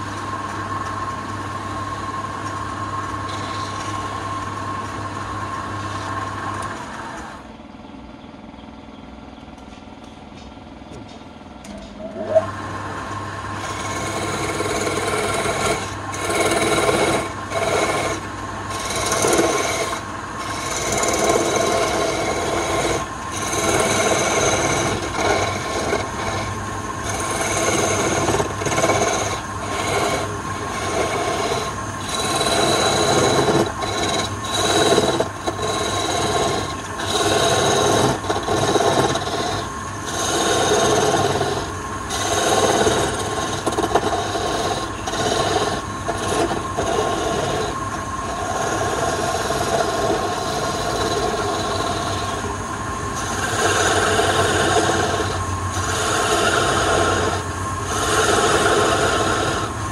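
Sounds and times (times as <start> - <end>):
chisel scraping spinning wood: 0.0 - 7.5, 11.7 - 59.9
wood lathe humming: 0.0 - 7.6, 11.7 - 59.9.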